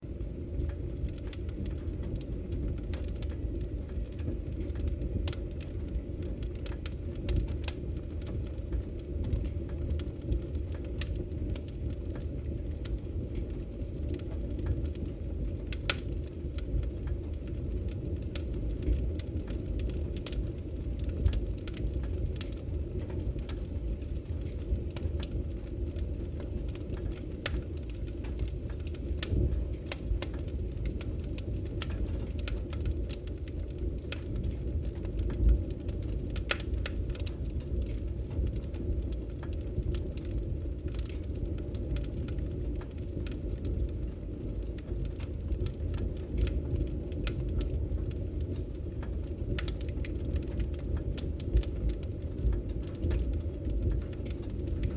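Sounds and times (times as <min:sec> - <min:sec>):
fire popping and snapping: 0:00.0 - 0:54.9
wood fire crackling: 0:00.0 - 0:54.9.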